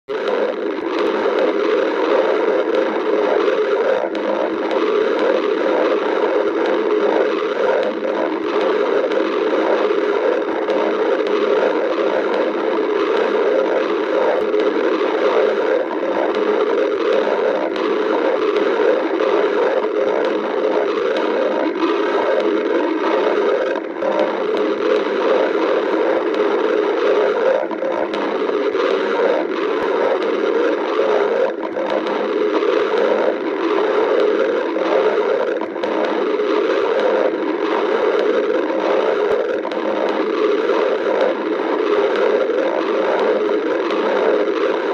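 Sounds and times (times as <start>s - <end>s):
stomach growling: 0.0s - 44.9s.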